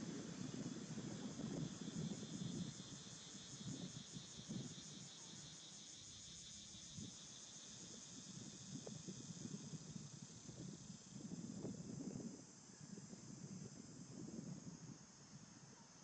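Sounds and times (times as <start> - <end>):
faint insect chorus: 0.0 - 16.0.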